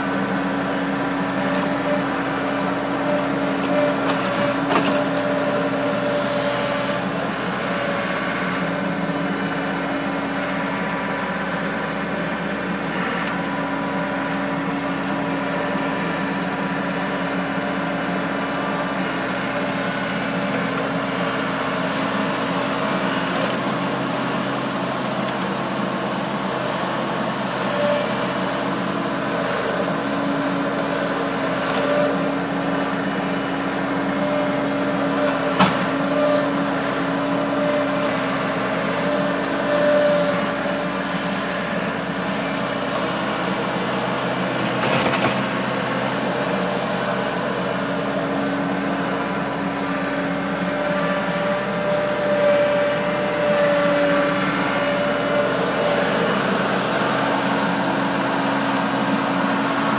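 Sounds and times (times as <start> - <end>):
loader engine under load: 0.0 - 59.9.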